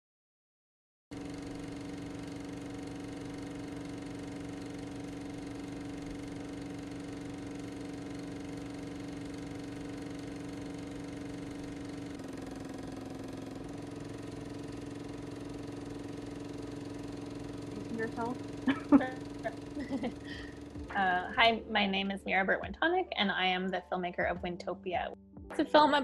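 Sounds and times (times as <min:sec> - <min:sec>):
film projector whirring: 0:01.1 - 0:22.4.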